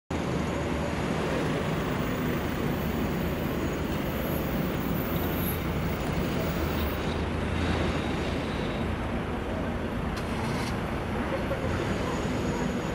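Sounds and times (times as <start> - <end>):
city road traffic: 0.1 - 12.9.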